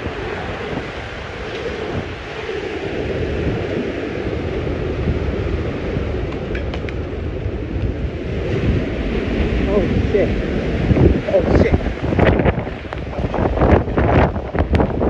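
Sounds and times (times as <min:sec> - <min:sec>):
driving rain: 0:00.0 - 0:15.0
hurricane wind gusting: 0:00.0 - 0:15.0
wind buffeting microphone: 0:00.0 - 0:15.0.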